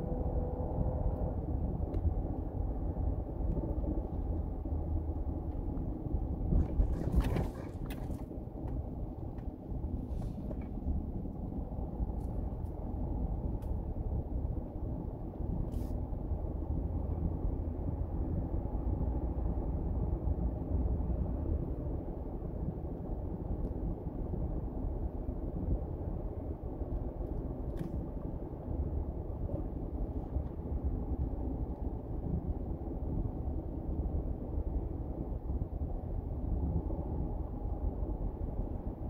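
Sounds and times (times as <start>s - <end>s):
car engine and tyre noise: 0.0s - 39.0s.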